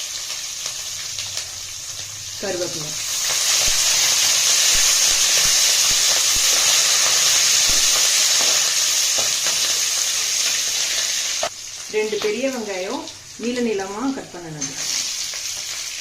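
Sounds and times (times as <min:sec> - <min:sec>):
chillies sizzling in hot oil: 0:00.0 - 0:16.0.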